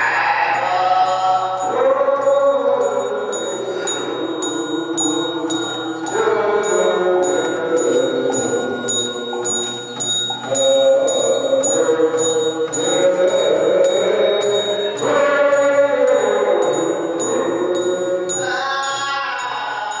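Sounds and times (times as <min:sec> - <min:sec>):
high ticking beat: 0:00.0 - 0:20.0.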